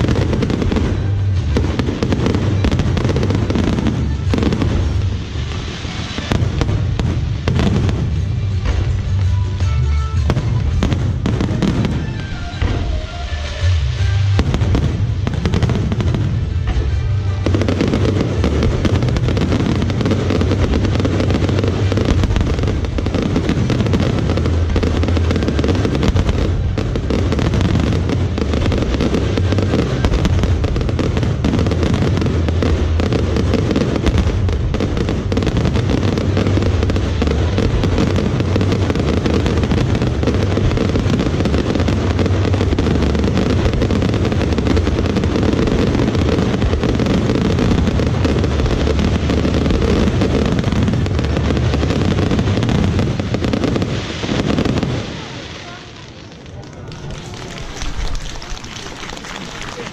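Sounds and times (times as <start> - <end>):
deep fireworks booms: 0.0 - 59.9
fireworks crackling bursts: 0.0 - 59.9.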